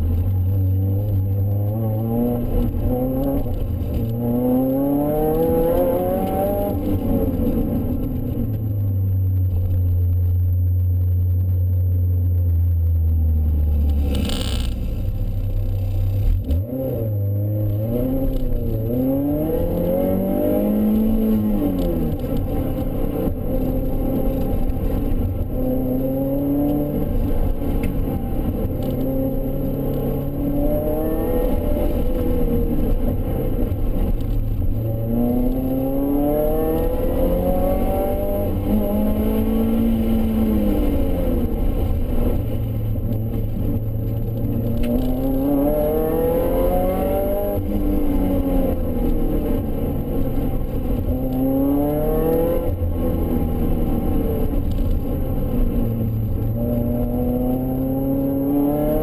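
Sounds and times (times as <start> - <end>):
car engine revving in cabin: 0.1 - 59.0.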